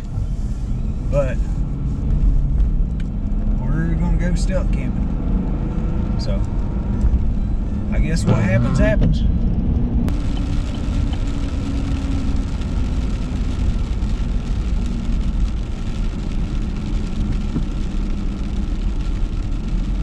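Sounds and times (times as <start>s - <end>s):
engine and tyre rumble: 0.0s - 20.0s.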